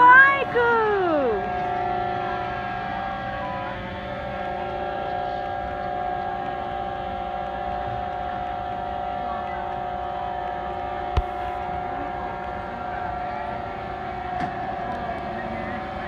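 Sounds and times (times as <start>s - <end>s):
two-tone electronic siren: 0.0s - 16.0s.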